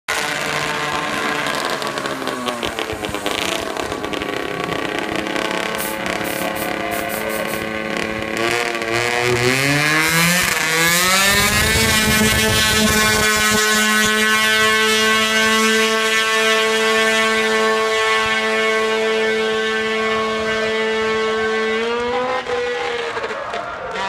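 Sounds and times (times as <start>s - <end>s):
drag racing engine accelerating: 0.1s - 24.0s.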